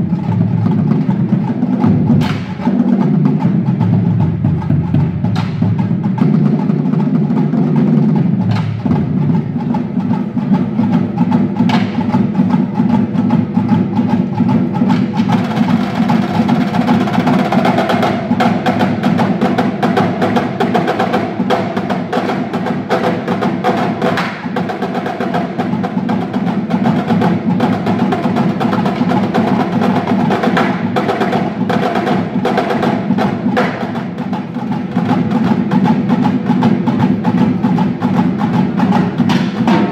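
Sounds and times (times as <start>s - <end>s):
drumline playing fast rhythms: 0.0s - 39.9s.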